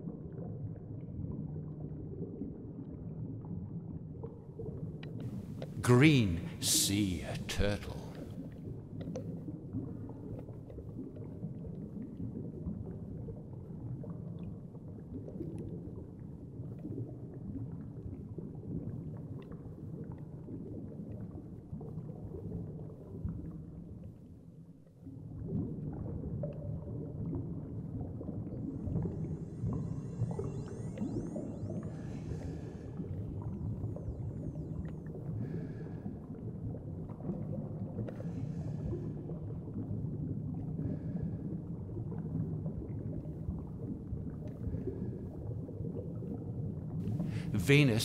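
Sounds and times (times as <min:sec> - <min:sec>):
underwater rumble and swishing: 0:00.0 - 0:05.8, 0:08.1 - 0:47.4.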